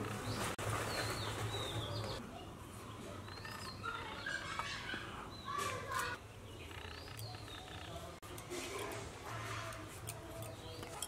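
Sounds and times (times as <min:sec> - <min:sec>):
birds chirping: 0:00.0 - 0:11.0
outdoor background noise: 0:00.0 - 0:11.0.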